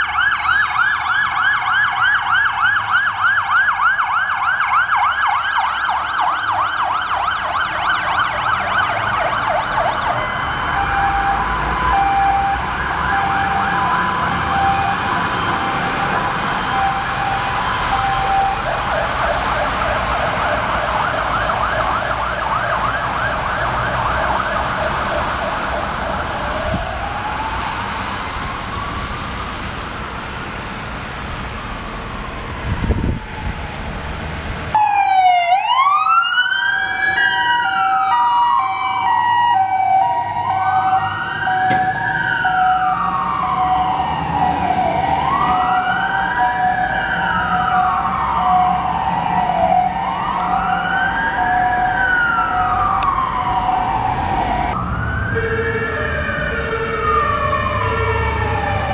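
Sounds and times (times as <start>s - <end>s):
fire engine sirens yelping: 0.0s - 58.9s
siren wailing slowly: 0.0s - 58.9s.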